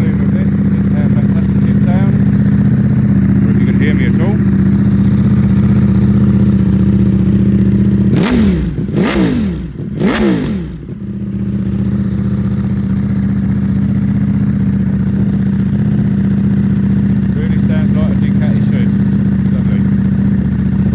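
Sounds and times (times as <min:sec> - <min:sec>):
motorcycle engine idling: 0:00.0 - 0:20.9
motorcycle throttle blips: 0:00.0 - 0:20.9.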